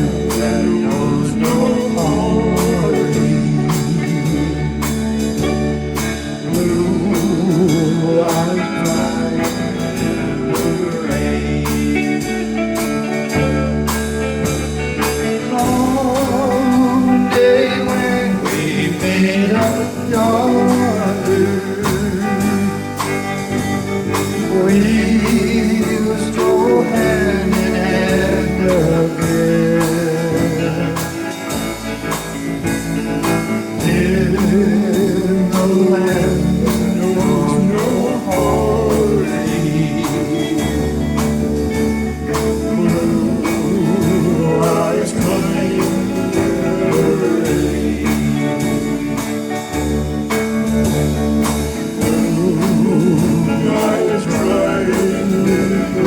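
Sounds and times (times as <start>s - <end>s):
country band playing: 0.0s - 56.0s
person singing lead vocal: 0.0s - 56.0s.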